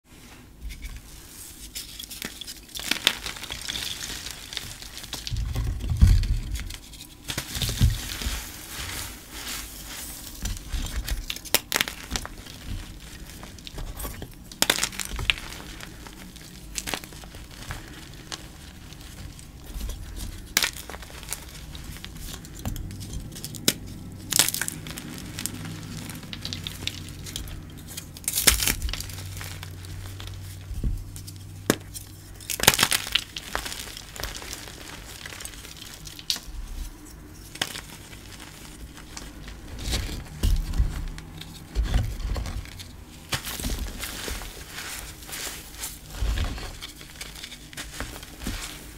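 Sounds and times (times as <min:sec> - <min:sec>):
powdery rustling: 0:00.1 - 0:48.9
chalk crunching: 0:00.2 - 0:48.9.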